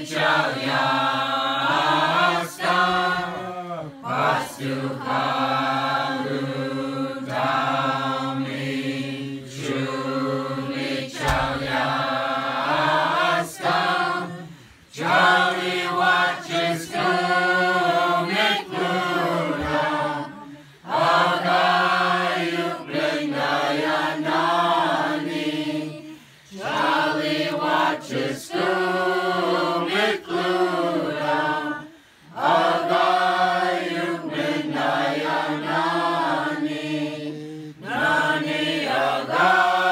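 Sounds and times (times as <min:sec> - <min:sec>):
group singing a carol unaccompanied: 0:00.0 - 0:39.9.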